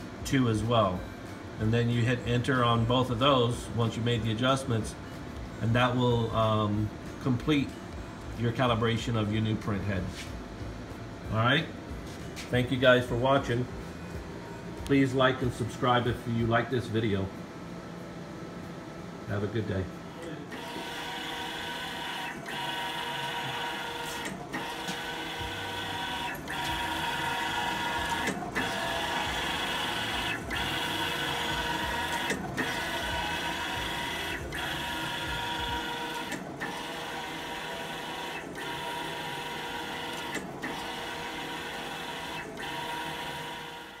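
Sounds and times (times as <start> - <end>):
printer carriage whirring: 0.0 - 44.0.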